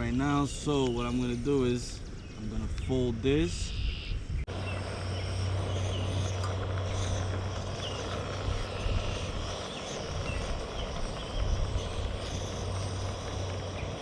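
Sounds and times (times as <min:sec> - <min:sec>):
faint bird chirps: 0:00.0 - 0:14.0
low rumbling drone: 0:00.0 - 0:14.0.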